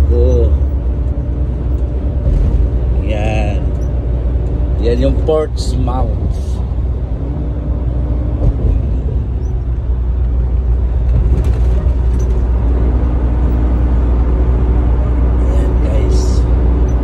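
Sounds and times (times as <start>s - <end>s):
road noise: 0.0s - 17.0s
truck engine rumble: 0.0s - 17.0s.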